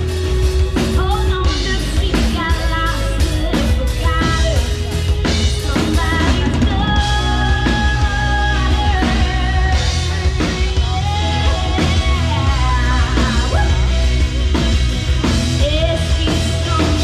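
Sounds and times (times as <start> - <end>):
drum kit beat: 0.0 - 17.0
live rock band playing: 0.0 - 17.0.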